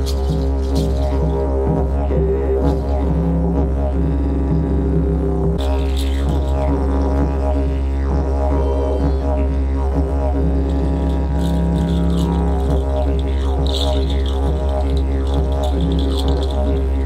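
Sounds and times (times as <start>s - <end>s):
didgeridoo drone: 0.0s - 17.0s
higher bending tones: 0.0s - 17.0s.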